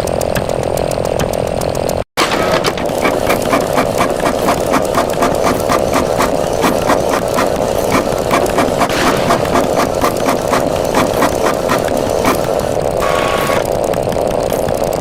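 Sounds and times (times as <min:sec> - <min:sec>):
machine clattering over a drone: 0:00.0 - 0:15.0.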